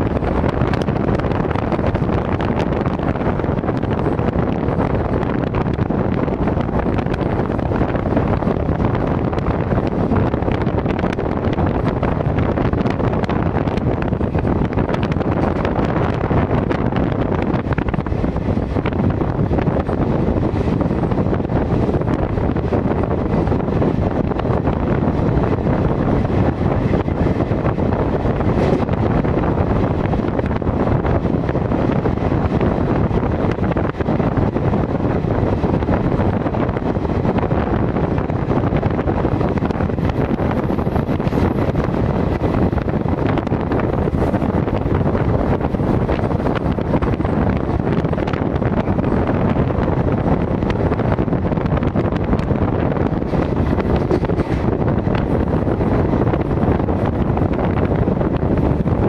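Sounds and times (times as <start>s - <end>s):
train rumbling and rushing: 0.0s - 59.0s
wind buffeting microphone: 0.0s - 59.0s.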